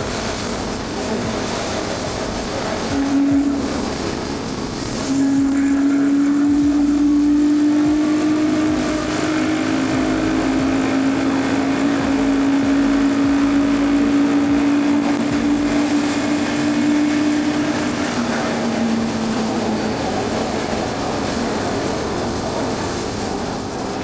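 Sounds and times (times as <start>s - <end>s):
motorcycle engine droning: 0.0s - 24.0s
road noise: 0.0s - 24.0s.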